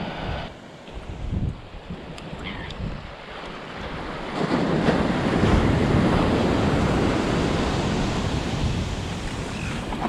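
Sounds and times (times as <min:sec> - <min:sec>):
ocean surf washing up beach: 0:00.0 - 0:10.0
wind noise on microphone: 0:00.0 - 0:10.0.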